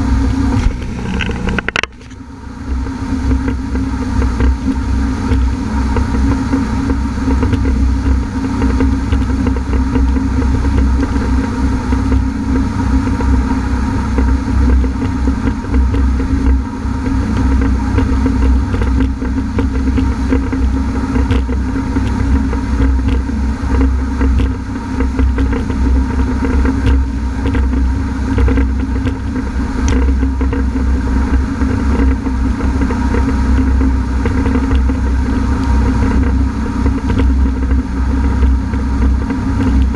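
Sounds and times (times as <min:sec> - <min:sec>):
watercraft engine running: 0:00.0 - 0:39.9
wind noise: 0:00.0 - 0:39.9.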